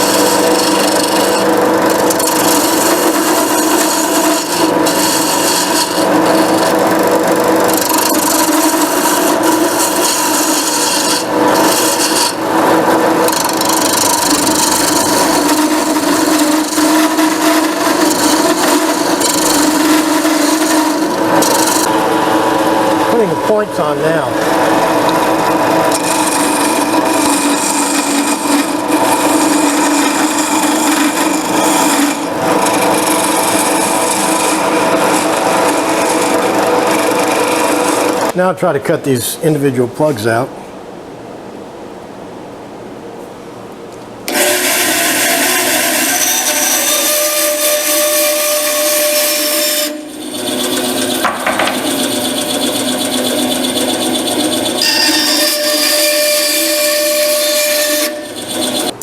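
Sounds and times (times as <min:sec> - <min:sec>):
lathe motor hum: 0:00.0 - 0:38.4, 0:44.3 - 0:59.0
wood lathe cutting wood: 0:00.0 - 0:38.4, 0:44.3 - 0:59.0.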